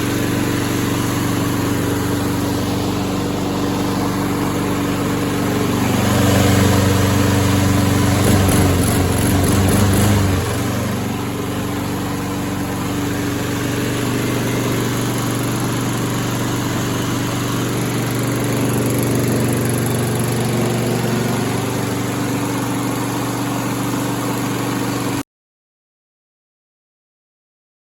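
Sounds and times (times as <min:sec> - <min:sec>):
lawn mower engine running: 0:00.0 - 0:25.2.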